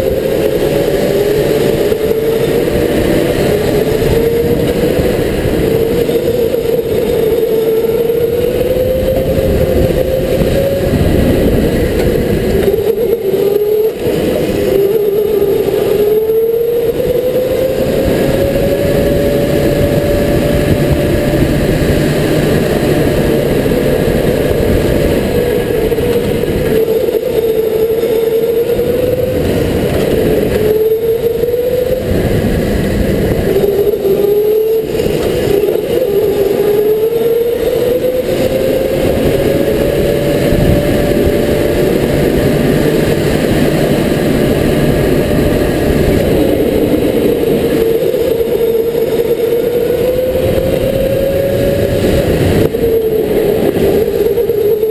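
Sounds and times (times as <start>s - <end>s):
electric motor whining: 0.0s - 54.9s
tyre and wind noise: 0.0s - 54.9s.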